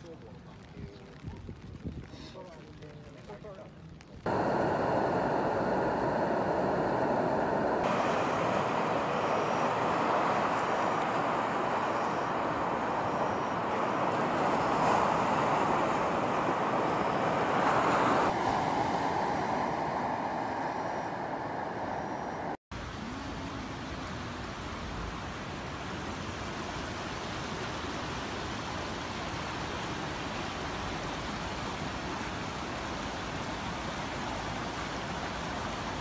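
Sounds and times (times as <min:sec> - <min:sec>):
floodwater rushing: 0:04.2 - 0:21.8, 0:22.7 - 0:36.0.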